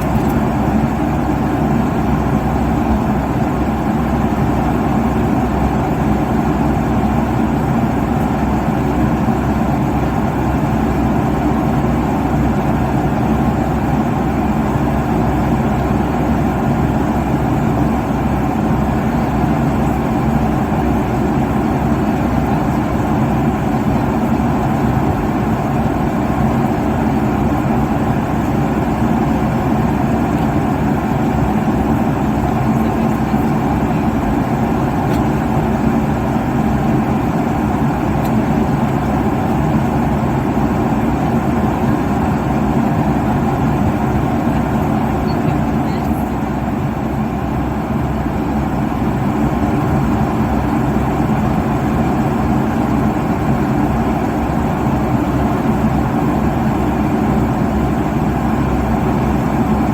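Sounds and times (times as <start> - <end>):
engine and airflow rush: 0.0 - 59.9.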